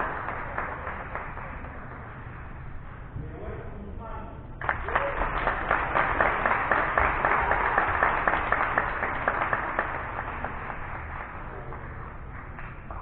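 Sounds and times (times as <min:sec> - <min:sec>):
people clapping: 0:00.0 - 0:03.0, 0:04.6 - 0:13.0.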